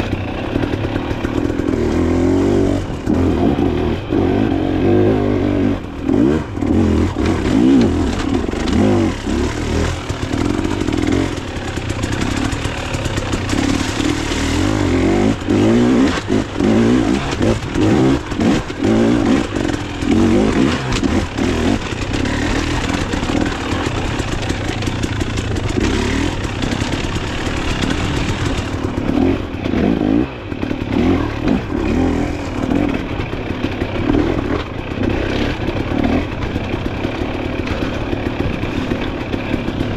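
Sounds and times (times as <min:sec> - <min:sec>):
clatter: 0:00.0 - 0:39.9
dirt bike engine revving: 0:00.0 - 0:39.9.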